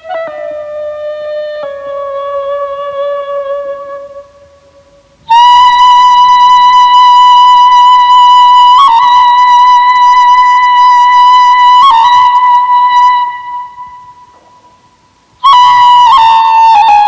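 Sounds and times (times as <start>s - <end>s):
flute-like long high note: 0.0s - 14.8s, 15.4s - 17.0s.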